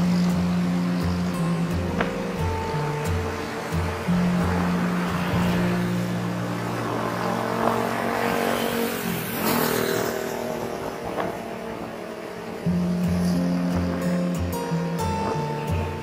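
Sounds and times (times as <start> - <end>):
background music with low notes: 0.0 - 16.0
road traffic: 0.0 - 16.0.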